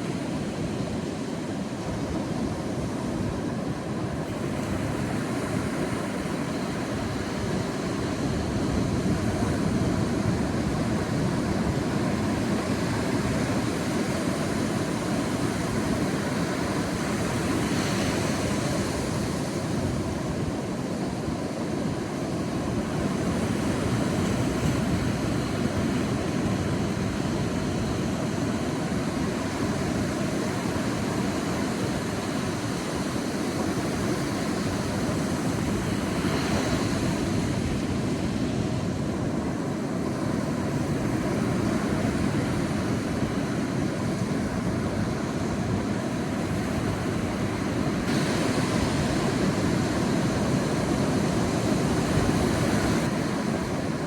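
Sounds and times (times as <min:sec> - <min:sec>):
sea waves washing on beach: 0:00.0 - 0:54.0.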